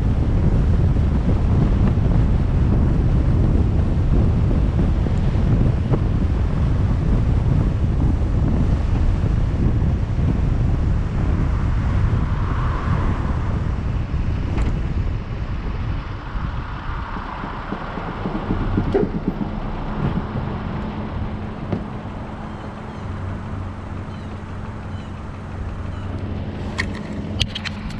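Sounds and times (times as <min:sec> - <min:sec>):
car road noise: 0:00.0 - 0:27.9
engine idling hum: 0:00.0 - 0:27.9
wind buffeting microphone: 0:00.0 - 0:27.9.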